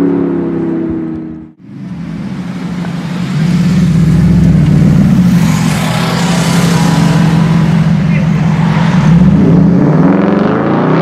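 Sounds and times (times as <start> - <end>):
car engine rolling by: 0.0 - 11.0.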